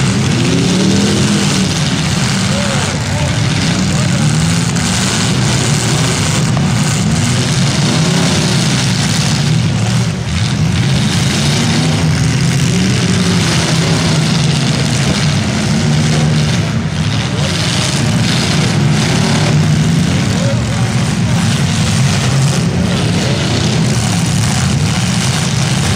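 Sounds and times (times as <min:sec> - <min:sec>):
car engines revving loudly: 0:00.0 - 0:25.9.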